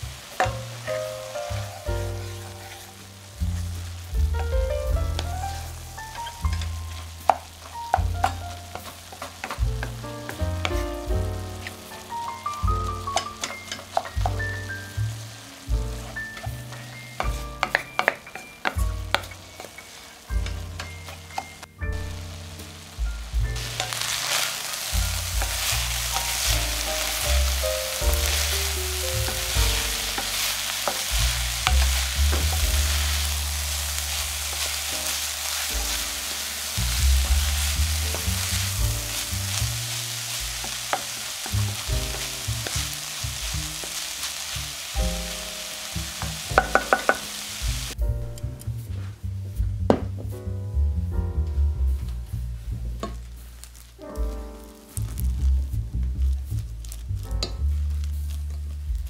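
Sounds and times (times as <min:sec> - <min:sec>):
wooden spatula scraping a pan: 0:00.0 - 0:48.0, 0:52.3 - 0:59.0
meat sizzling in a pan: 0:00.0 - 0:48.6, 0:53.0 - 0:59.0
soft background music: 0:00.1 - 0:59.0.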